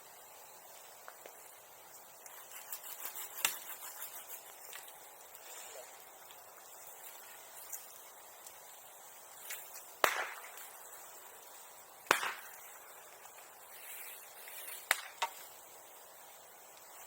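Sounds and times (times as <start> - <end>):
bamboo bursting in a bonfire: 0.0 - 17.0.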